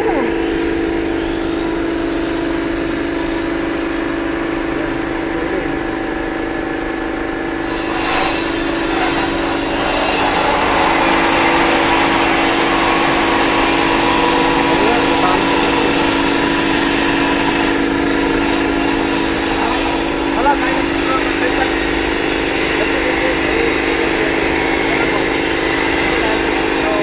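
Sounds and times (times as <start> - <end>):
machine humming: 0.0 - 27.0.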